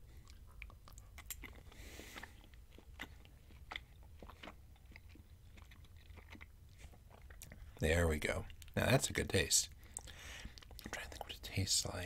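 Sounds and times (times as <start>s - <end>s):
person chewing food: 0.0s - 8.9s, 9.7s - 11.3s.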